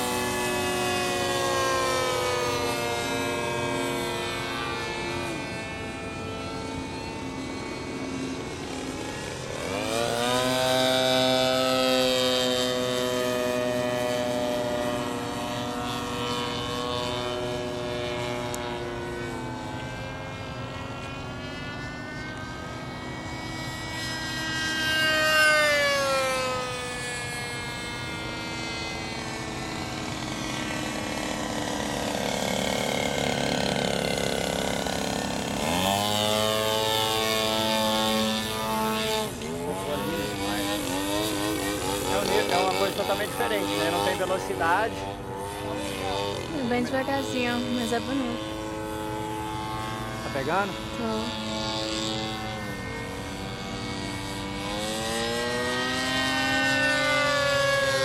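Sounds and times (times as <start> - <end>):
model airplane motor buzzing: 0.0 - 58.0.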